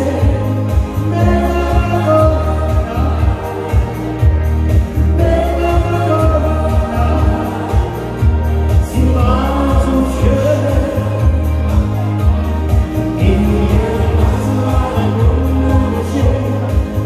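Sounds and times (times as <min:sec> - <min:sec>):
pop song with singing: 0:00.0 - 0:17.0
pulsing bass beat: 0:00.0 - 0:17.0.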